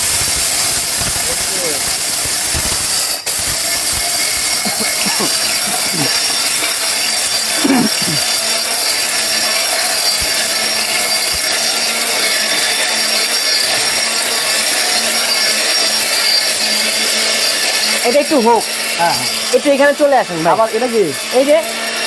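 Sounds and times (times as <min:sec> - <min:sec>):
mixer grinder motor grinding: 0:00.0 - 0:22.0.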